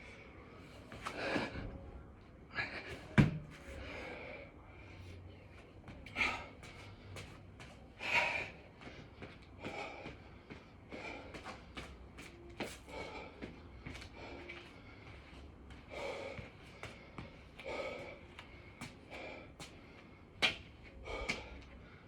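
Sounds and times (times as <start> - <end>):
man breathing heavily: 0.0 - 1.9, 2.5 - 22.0.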